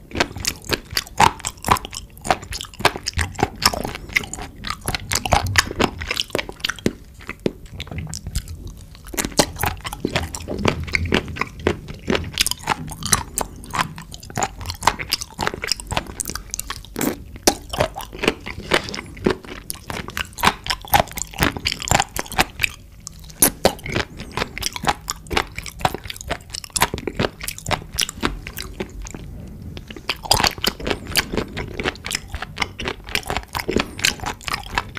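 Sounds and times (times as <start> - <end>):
wet crunchy chewing: 0.0 - 34.9.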